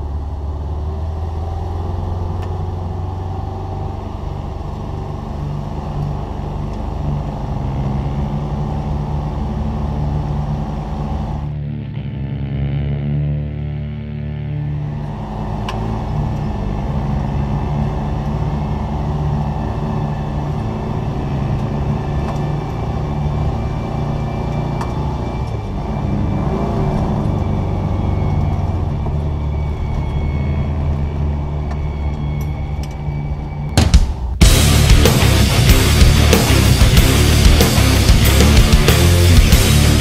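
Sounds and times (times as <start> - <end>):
off-road vehicle engine under load: 0.0 - 40.0.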